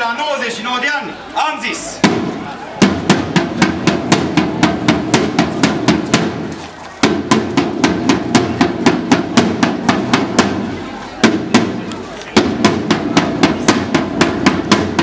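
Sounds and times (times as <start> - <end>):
side drum marching rhythm: 1.4 - 15.0.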